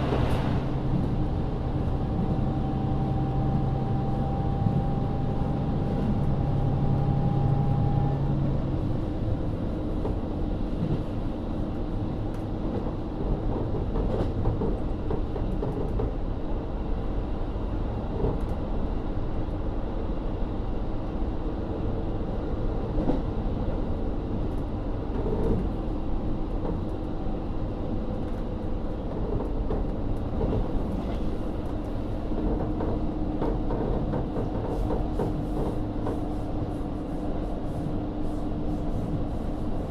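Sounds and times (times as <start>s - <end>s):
railcar rumbling on rails: 0.0s - 39.9s.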